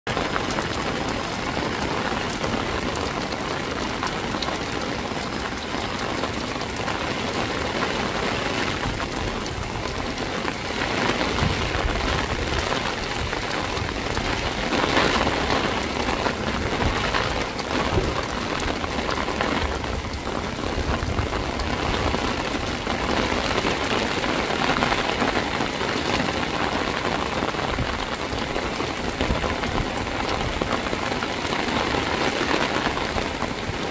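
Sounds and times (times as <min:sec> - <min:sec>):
heavy rain on concrete roof: 0:00.0 - 0:33.9.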